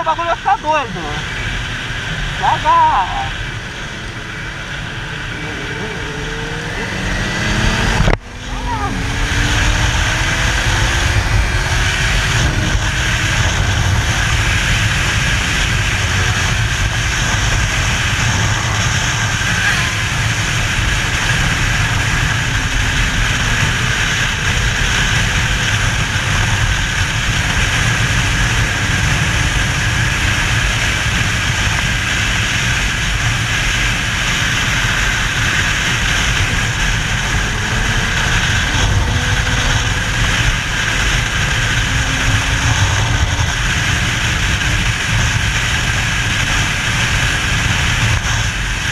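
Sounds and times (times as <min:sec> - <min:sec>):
motorcycle engine running: 0:00.0 - 0:48.9
wind rush over microphone: 0:00.0 - 0:48.9.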